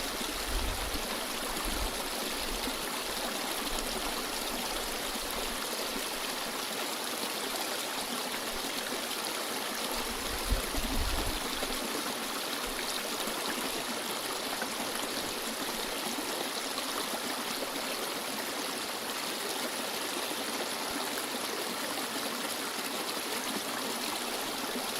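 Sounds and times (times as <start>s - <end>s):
stream flowing: 0.0s - 24.9s.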